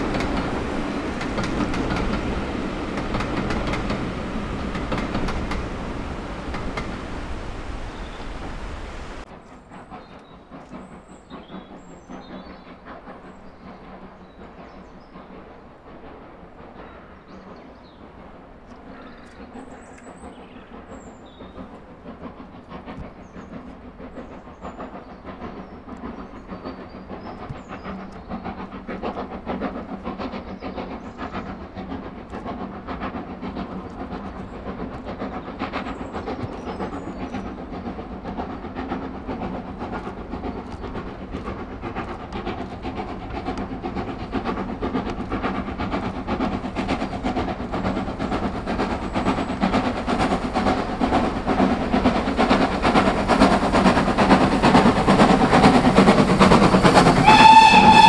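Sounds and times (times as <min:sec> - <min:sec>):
clatter of train wheels and wagons: 0:00.0 - 0:58.0
steam locomotive approaching: 0:00.0 - 0:58.0.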